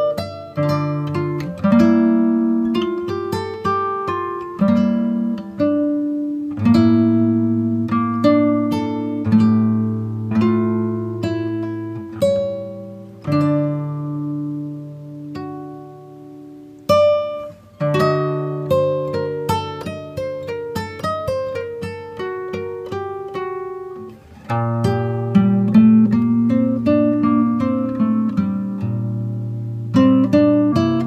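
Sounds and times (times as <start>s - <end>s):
plucked-string instrumental music: 0.0s - 31.0s.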